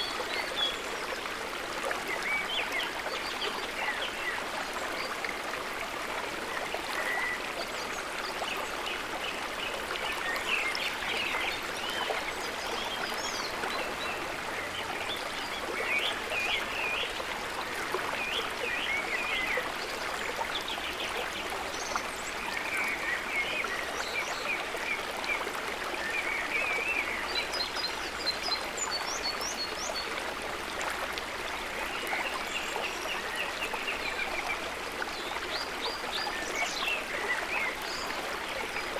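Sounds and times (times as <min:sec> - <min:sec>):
river water running: 0:00.0 - 0:38.9.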